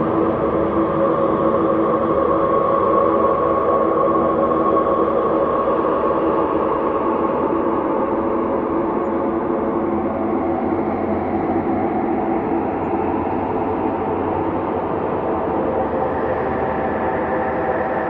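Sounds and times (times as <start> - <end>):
ambient drone: 0.0 - 18.0.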